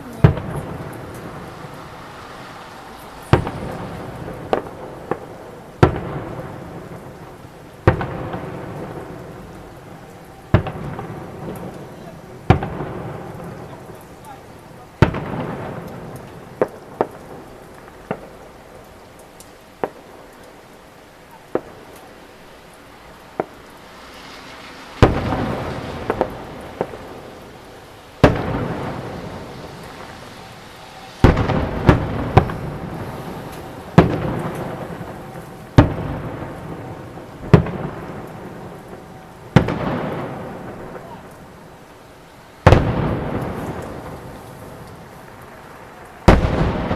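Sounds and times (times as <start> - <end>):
firework booms with rolling rumble: 0.0 - 18.8, 21.5 - 22.0, 25.0 - 41.9, 42.6 - 46.9
small firework cracks: 0.0 - 41.9, 42.6 - 46.9.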